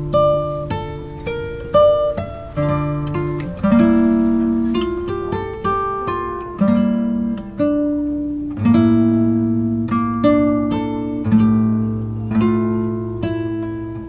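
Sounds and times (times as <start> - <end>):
acoustic guitar plucked chords: 0.0 - 14.0.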